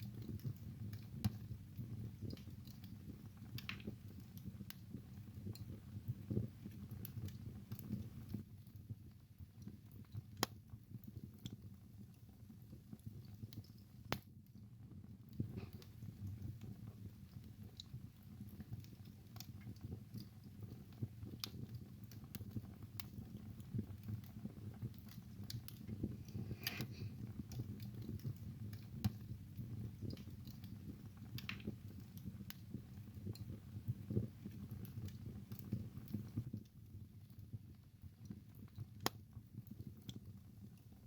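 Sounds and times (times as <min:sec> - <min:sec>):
low rumble of fire flames: 0:00.0 - 0:41.0
wood fire crackles and pops: 0:00.0 - 0:41.0.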